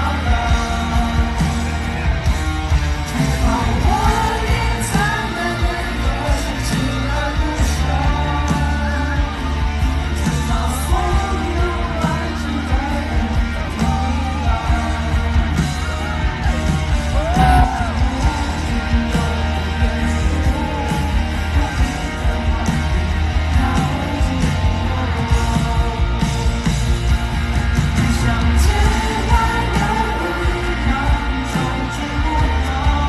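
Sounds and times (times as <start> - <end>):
live rock band playing: 0.0 - 33.0
voices singing and shouting: 0.0 - 33.0.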